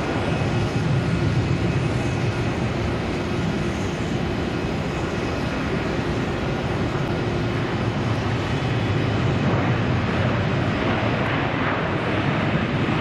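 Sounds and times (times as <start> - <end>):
jet engine rush with faint whine: 0.0 - 13.0.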